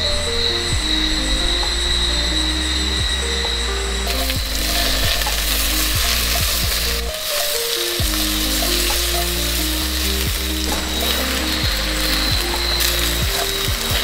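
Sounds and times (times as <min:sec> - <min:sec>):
background music with bass line: 0:00.0 - 0:14.0
food sizzling: 0:00.0 - 0:14.0.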